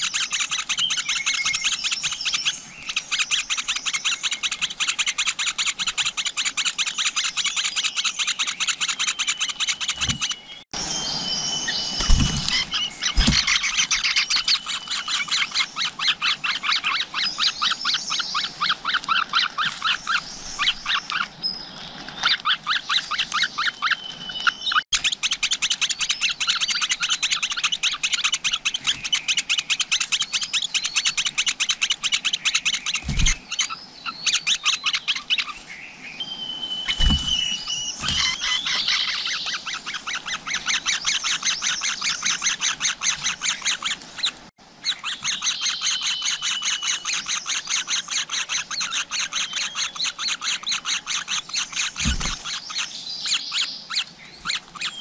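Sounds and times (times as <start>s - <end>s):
nestling birds cheeping: 0.0s - 55.0s
whistled bird notes: 0.0s - 55.0s.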